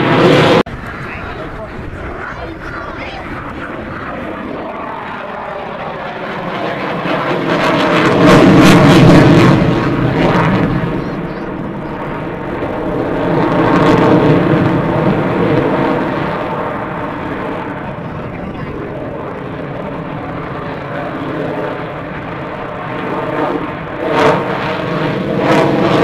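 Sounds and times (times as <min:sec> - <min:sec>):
airplane engine: 0:00.0 - 0:26.0.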